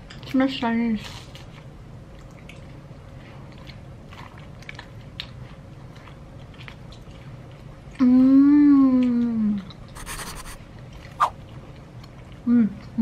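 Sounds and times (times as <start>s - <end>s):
chewing crisp fried snack: 0.0s - 13.0s.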